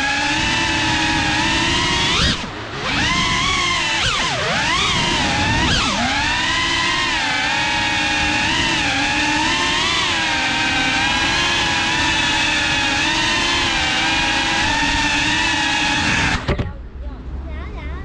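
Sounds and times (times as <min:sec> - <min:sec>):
drone motors whining: 0:00.0 - 0:16.8.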